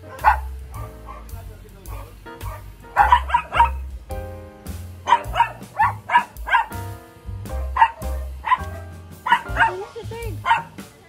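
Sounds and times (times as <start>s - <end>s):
dog barking: 0.0s - 3.9s, 5.0s - 6.8s, 7.5s - 10.8s
background music: 0.0s - 11.0s.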